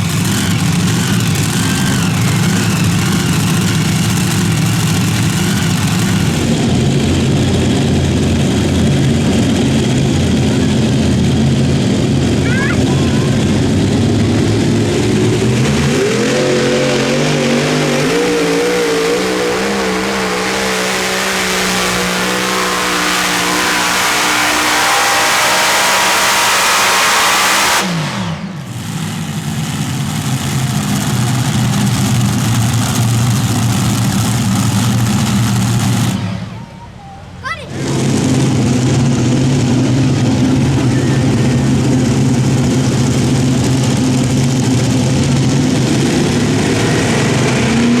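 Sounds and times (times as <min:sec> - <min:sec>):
pulling tractor engines roaring: 0:00.0 - 0:48.0.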